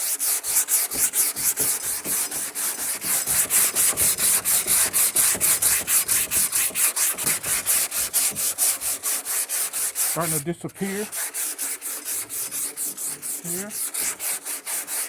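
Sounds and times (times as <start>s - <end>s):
sandpaper rasping on filler: 0.0s - 15.0s.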